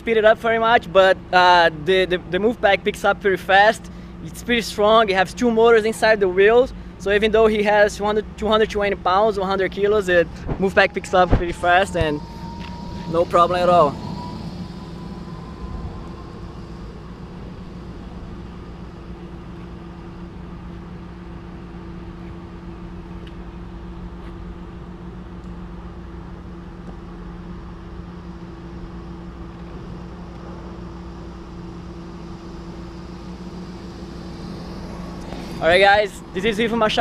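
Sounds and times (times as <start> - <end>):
faint high whine: 0.0 - 37.0
low mechanical hum: 0.0 - 37.0
outdoor background noise: 0.0 - 37.0.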